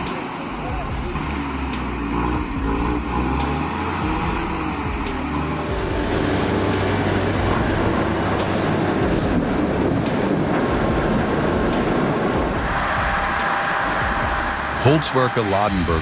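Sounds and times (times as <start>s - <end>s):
heavy vehicle engine rumbling: 0.0s - 16.0s.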